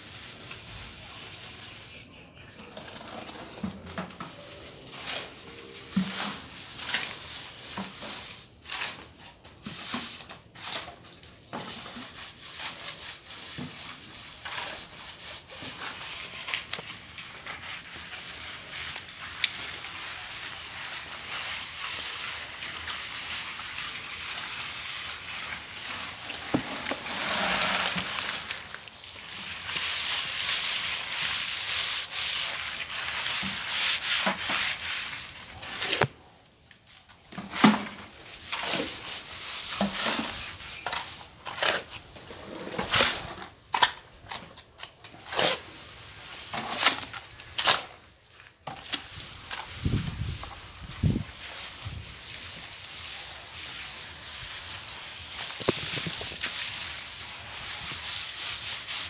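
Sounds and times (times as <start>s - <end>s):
trowel scraping wet concrete: 2.6s - 36.3s, 37.4s - 59.0s.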